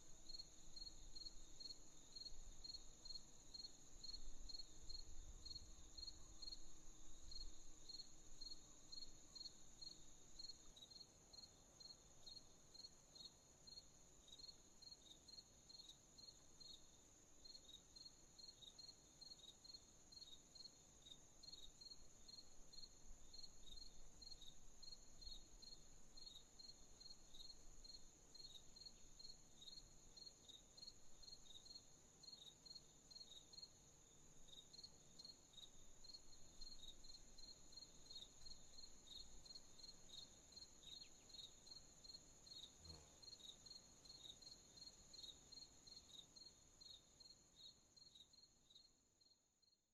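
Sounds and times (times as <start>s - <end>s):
crickets chirping: 0.0s - 49.8s.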